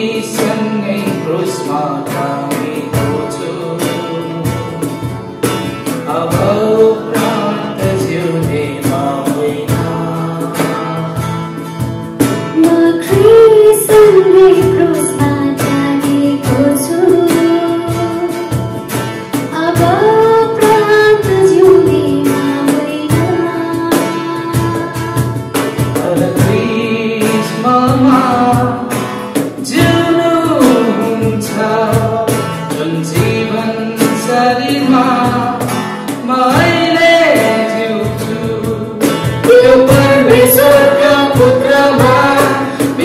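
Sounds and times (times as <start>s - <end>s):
woman singing: 0.0s - 5.3s, 12.2s - 43.0s
strummed acoustic guitar: 0.0s - 43.0s.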